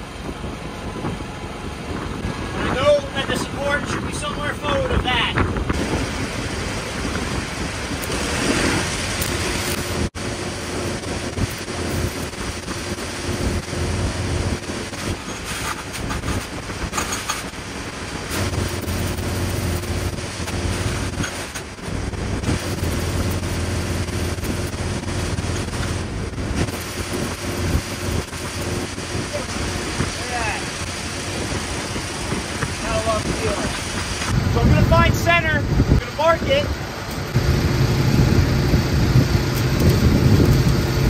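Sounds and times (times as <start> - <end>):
engine running steadily: 0.0 - 41.0
welding arc crackling: 5.6 - 41.0.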